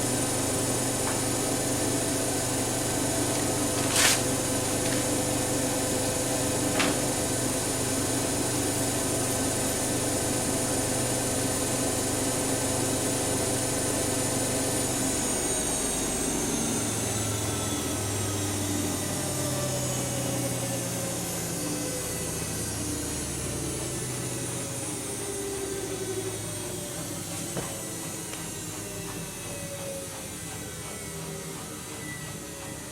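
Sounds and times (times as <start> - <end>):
washing machine spinning: 0.0 - 32.9.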